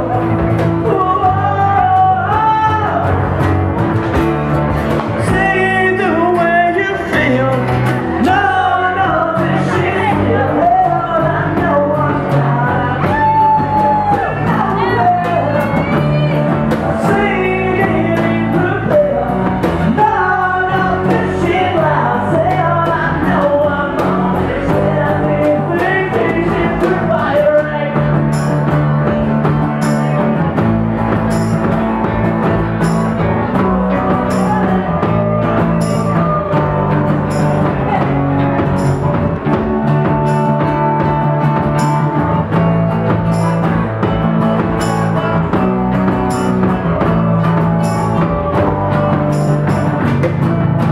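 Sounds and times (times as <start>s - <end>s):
person singing: 0.0s - 3.5s, 4.9s - 28.7s, 33.2s - 43.8s, 44.6s - 50.9s
drum kit: 0.0s - 50.9s
strummed acoustic guitar: 0.0s - 50.9s.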